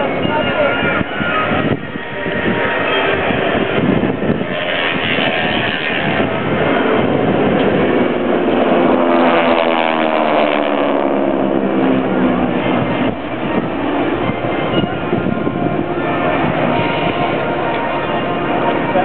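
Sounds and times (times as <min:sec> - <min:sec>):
propeller aircraft flying past: 0:00.0 - 0:19.0.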